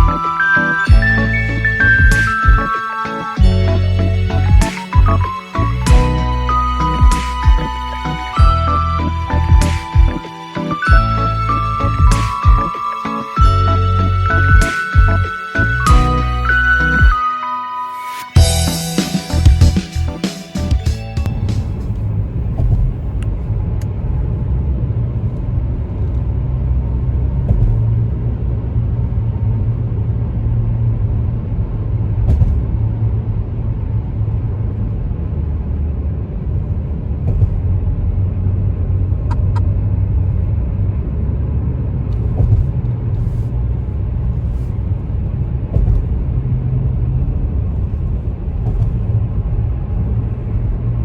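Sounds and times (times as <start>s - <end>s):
car rumble: 3.4s - 12.7s, 18.4s - 51.0s.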